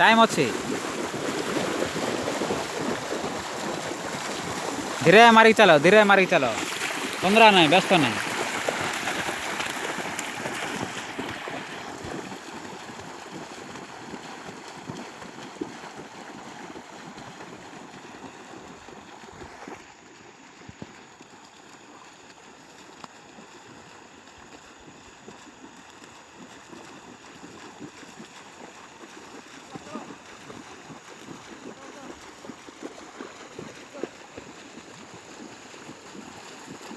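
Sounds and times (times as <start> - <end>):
legs splashing through water: 0.0 - 36.9.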